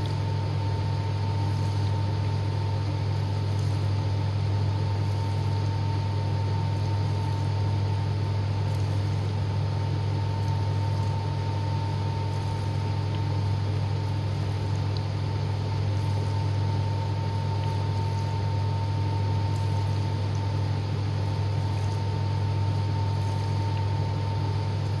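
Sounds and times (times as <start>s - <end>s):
dishwasher pump hum: 0.0s - 25.0s
thin steady whine: 0.0s - 25.0s.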